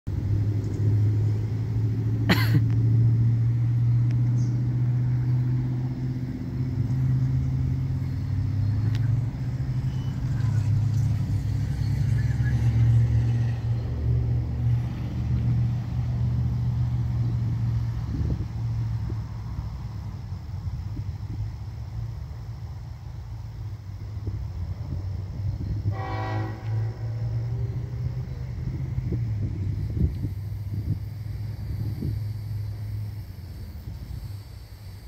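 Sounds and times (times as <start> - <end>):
diesel locomotive engine drone: 0.1 - 35.0.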